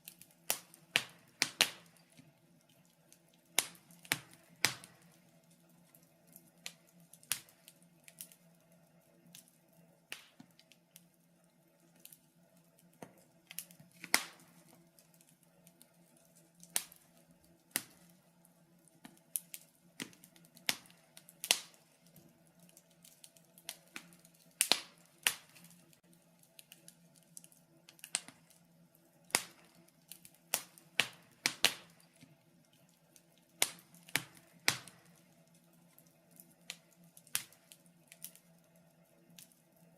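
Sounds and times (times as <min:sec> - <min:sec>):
wood fire crackling in fireplace: 0:00.0 - 0:39.9.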